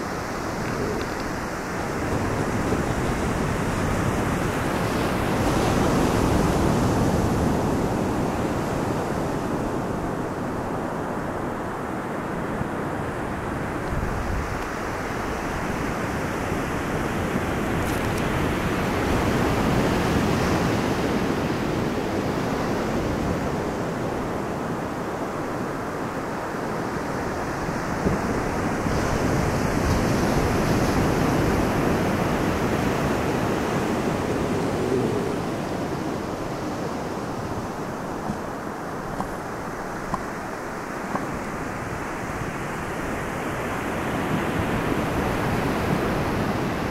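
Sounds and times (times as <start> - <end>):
ocean surf breaking: 0.0 - 46.9
wind: 0.0 - 46.9.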